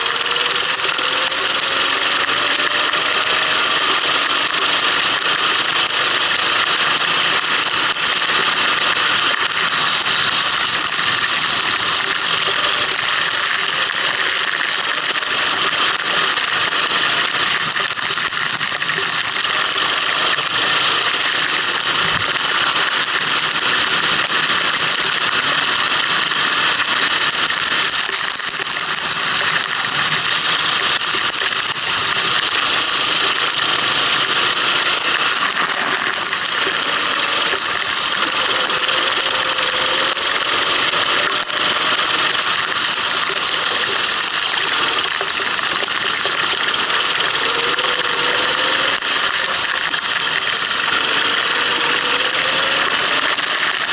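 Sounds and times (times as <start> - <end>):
go-kart engine running: 0.0 - 53.9
steady rain hiss: 0.0 - 53.9.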